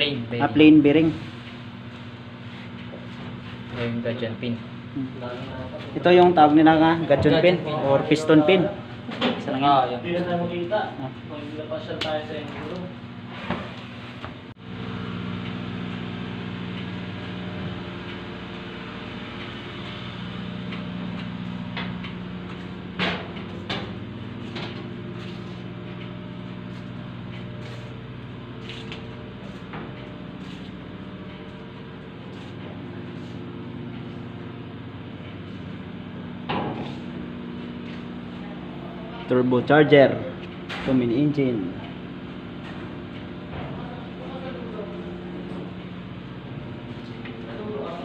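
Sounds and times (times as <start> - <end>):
engine-room machinery drone: 0.0 - 48.0.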